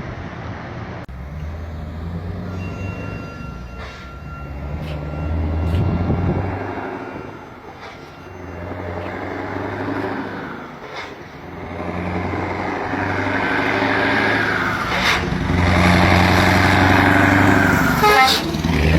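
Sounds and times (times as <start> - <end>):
diesel truck engine running: 1.1 - 18.9.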